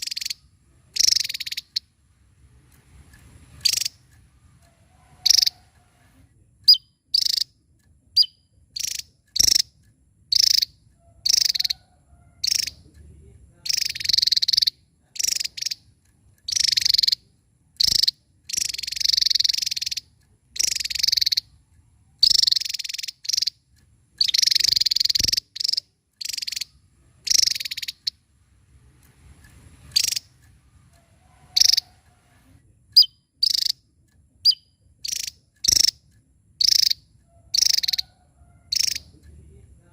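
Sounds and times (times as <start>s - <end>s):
bird singing high phrases: 0.0s - 2.0s, 3.4s - 12.9s, 13.6s - 21.6s, 22.2s - 28.3s, 29.8s - 32.0s, 32.9s - 39.2s.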